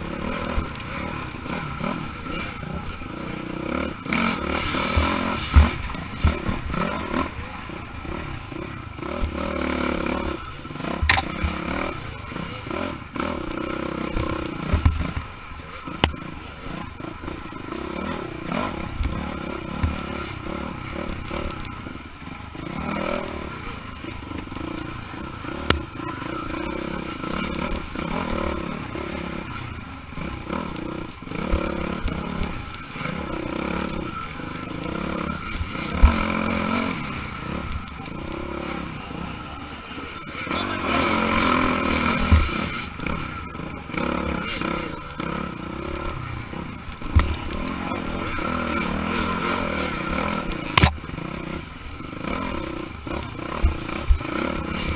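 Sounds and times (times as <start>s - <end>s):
clatter and scraping of bike and brush: 0.0s - 54.9s
dirt bike engine revving: 0.0s - 54.9s.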